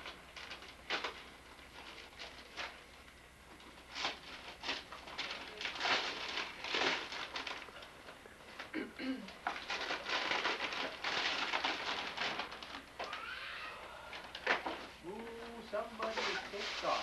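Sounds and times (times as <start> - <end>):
wrapping paper rustling and tearing: 0.0 - 8.7, 9.3 - 13.5, 14.1 - 17.0.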